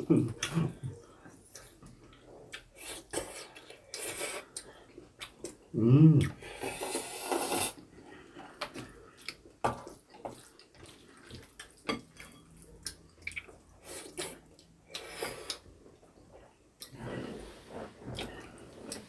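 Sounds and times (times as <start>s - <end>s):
noodles stirred and eaten: 0.0s - 19.0s.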